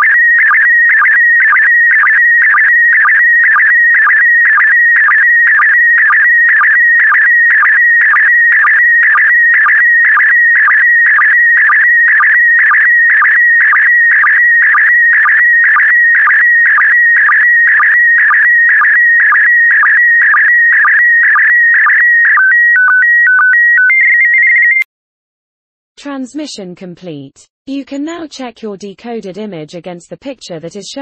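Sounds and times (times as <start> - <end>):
fast-warbling signal tone: 0.0 - 24.8.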